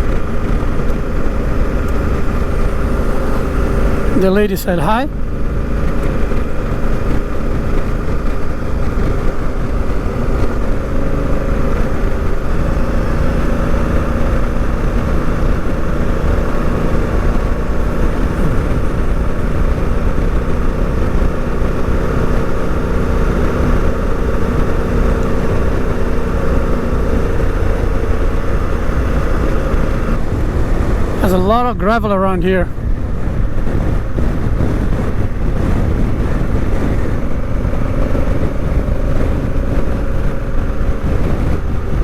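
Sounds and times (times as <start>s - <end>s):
motorcycle engine cruising: 0.0s - 42.0s
wind rumble on microphone: 0.0s - 42.0s.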